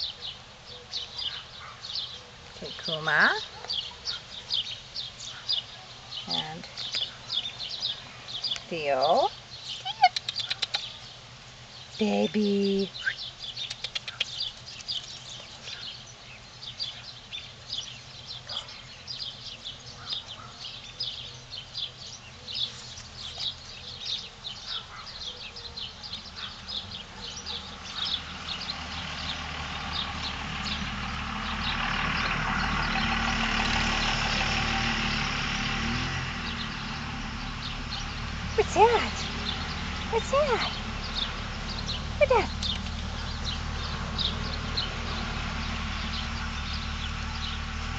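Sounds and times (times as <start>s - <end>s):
small birds chirping: 0.0s - 47.9s
vehicle engine and road noise: 0.0s - 47.9s.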